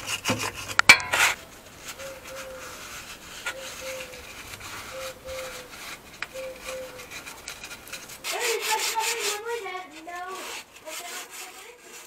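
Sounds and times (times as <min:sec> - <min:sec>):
wire brush scrubbing metal: 0:00.0 - 0:12.0.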